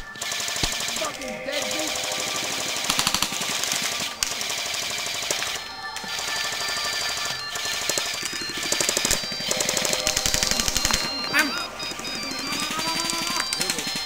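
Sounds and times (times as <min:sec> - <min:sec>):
airsoft rifles firing bursts: 0:00.0 - 0:14.0.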